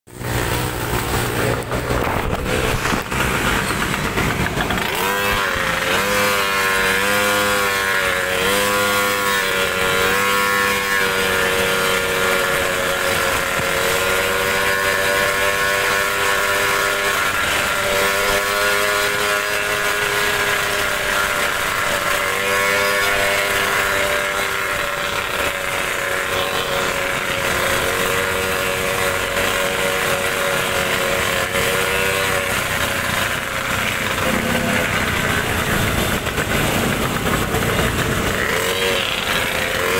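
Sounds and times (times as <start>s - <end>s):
scooter engine running: 0.1s - 39.9s.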